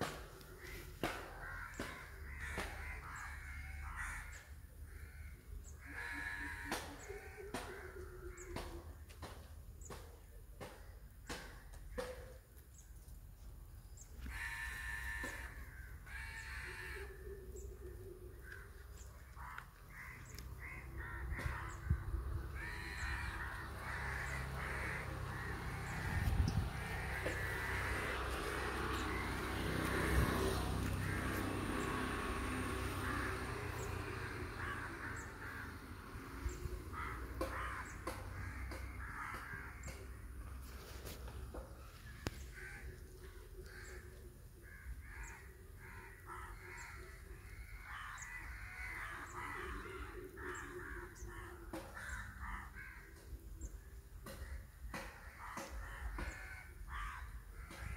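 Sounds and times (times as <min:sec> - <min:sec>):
crows cawing: 0:00.0 - 0:10.0, 0:10.6 - 0:12.7, 0:13.9 - 0:57.9.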